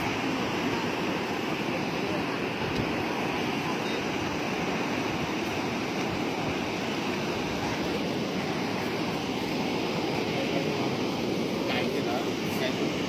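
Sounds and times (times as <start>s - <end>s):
water rushing through sluice gate: 0.0s - 13.0s.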